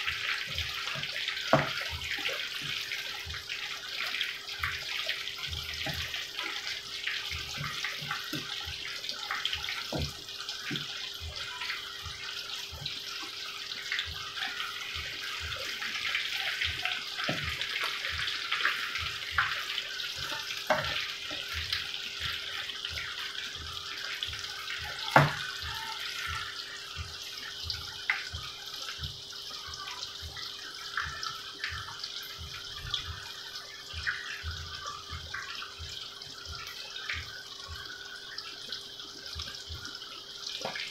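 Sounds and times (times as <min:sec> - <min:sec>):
deep-frying sizzle with pops: 0:00.0 - 0:40.9.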